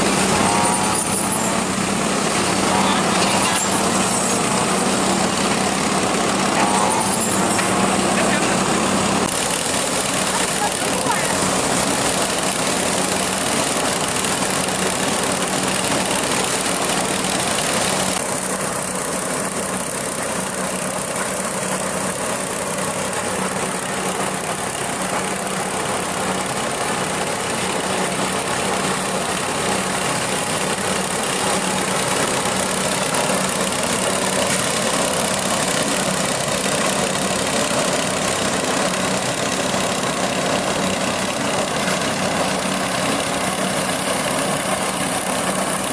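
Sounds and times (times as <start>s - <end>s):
engine humming steadily: 0.0s - 45.9s.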